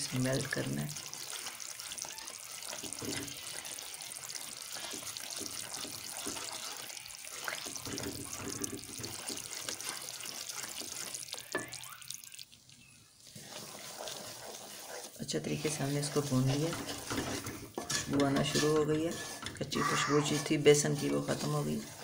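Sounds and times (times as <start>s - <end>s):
wooden spatula stirring and scraping: 0.0s - 12.4s, 13.2s - 22.0s.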